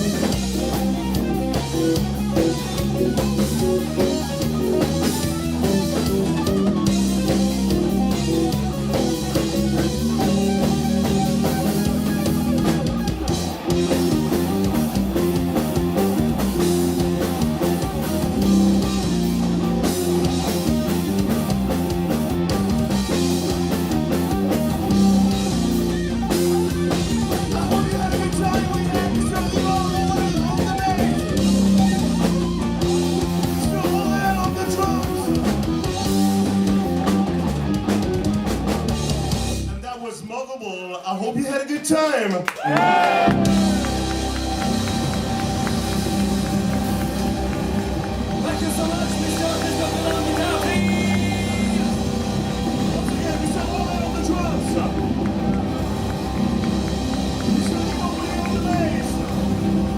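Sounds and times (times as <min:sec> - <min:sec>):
electric guitar: 0:00.0 - 0:39.8, 0:42.6 - 0:59.9
bass guitar: 0:00.0 - 0:39.9, 0:42.6 - 0:59.9
drum kit: 0:00.0 - 0:39.9, 0:42.6 - 0:59.9.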